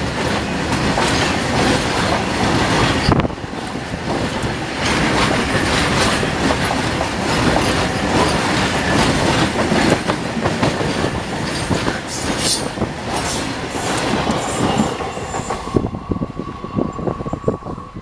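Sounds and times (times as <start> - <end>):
freight train wheels clattering: 0.0 - 16.3.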